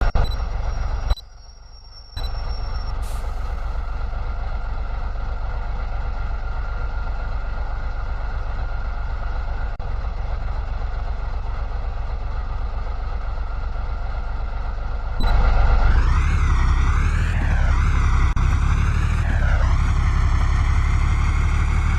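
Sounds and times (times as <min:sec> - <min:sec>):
truck engine rumbling: 0:00.0 - 0:21.9.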